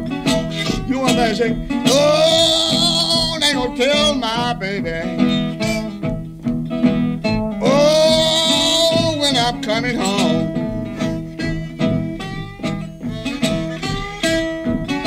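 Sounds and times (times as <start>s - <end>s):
harmonica: 0.0s - 15.0s
slide guitar: 0.0s - 15.0s.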